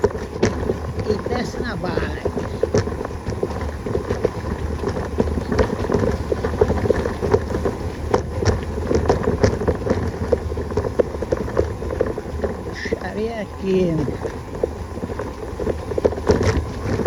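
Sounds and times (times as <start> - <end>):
bicycle rattling over stones: 0.0 - 17.0
wind buffeting microphone: 0.0 - 17.0.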